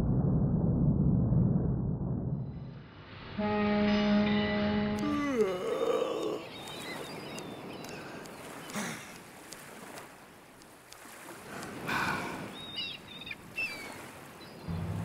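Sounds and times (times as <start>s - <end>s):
wind: 1.8s - 15.0s
sea noise: 2.9s - 15.0s.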